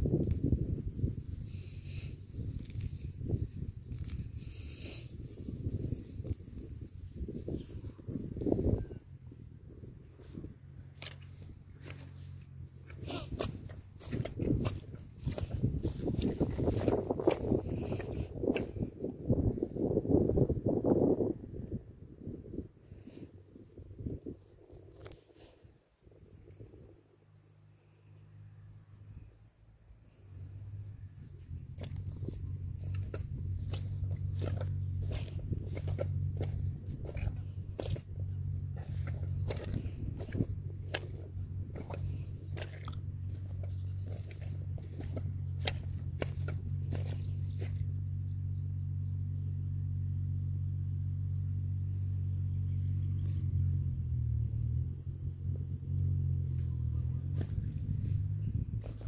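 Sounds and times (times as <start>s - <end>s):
insects trilling: 0.0s - 9.1s, 9.8s - 59.0s
low rumble on microphone: 0.0s - 27.1s, 30.2s - 59.0s
insect chirps: 0.0s - 59.0s.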